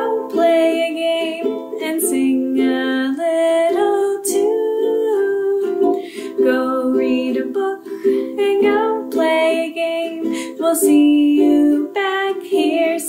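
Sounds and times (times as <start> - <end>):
ukulele strumming: 0.0 - 13.0
woman singing: 0.0 - 13.0.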